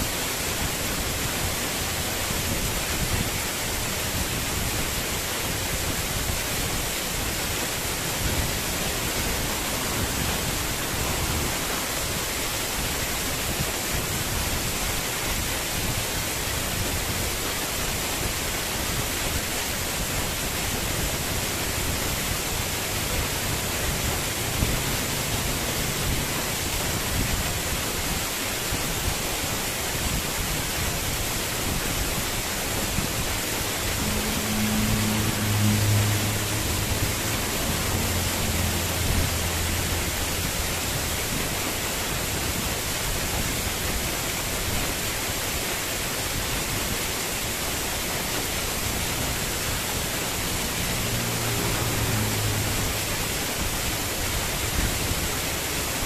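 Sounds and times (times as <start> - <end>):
waterfall splashing on rocks: 0.0 - 56.0.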